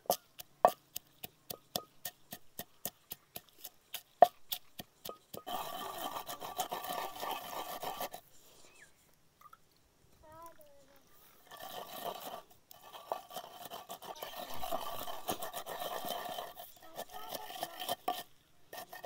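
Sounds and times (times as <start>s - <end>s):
pestle grinding paste: 0.0s - 8.2s, 11.4s - 19.0s
pestle pounding in a mortar: 0.0s - 8.2s, 11.6s - 19.0s.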